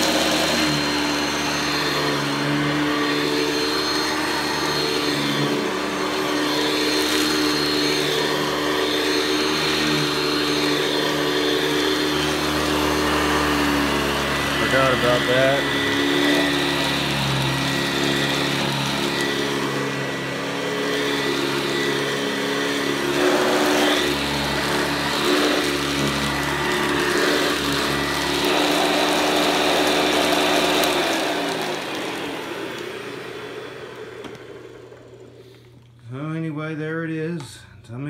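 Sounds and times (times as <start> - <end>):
vacuum cleaner motor whine: 0.0 - 36.8.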